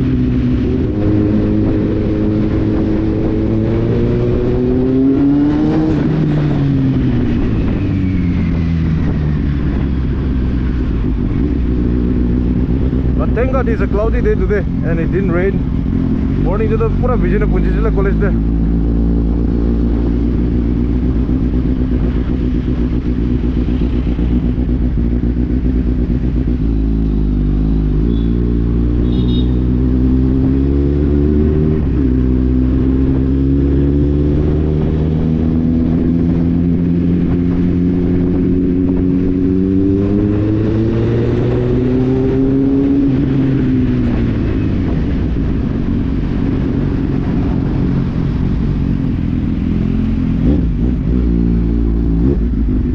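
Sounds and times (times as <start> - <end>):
motorcycle engine on the road: 0.0 - 52.9.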